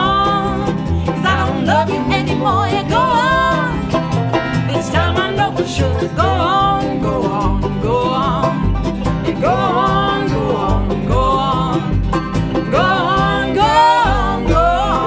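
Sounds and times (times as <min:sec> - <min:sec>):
people singing together: 0:00.0 - 0:03.8, 0:04.7 - 0:08.6, 0:09.3 - 0:15.0
acoustic guitar: 0:00.0 - 0:15.0
banjo: 0:00.0 - 0:15.0
fiddle: 0:00.0 - 0:15.0
mandolin: 0:00.0 - 0:15.0
upright bass: 0:00.0 - 0:15.0.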